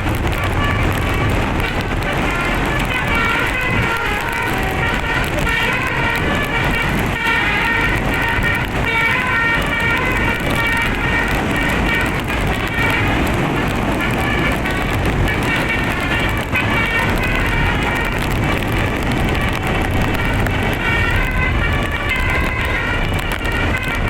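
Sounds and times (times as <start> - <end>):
bus horn playing a tune: 0.0 - 24.0
steady low rumble: 0.0 - 24.0.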